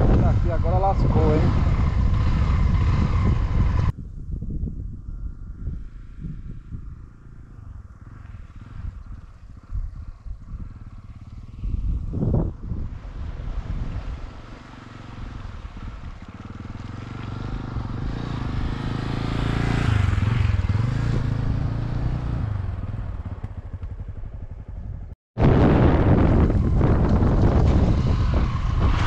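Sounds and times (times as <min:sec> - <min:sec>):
motorcycle engine riding: 0:00.0 - 0:04.0, 0:04.8 - 0:29.0.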